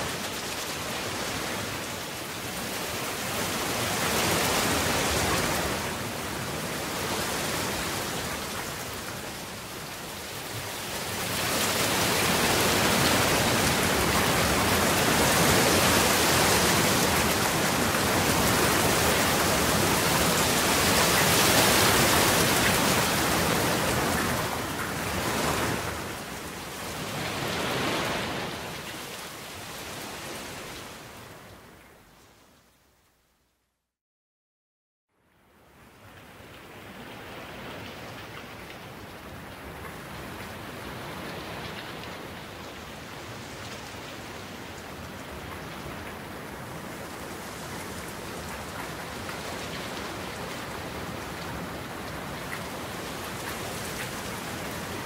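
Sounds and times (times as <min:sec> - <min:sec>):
rain falling: 0:00.0 - 0:31.1, 0:35.7 - 0:55.0.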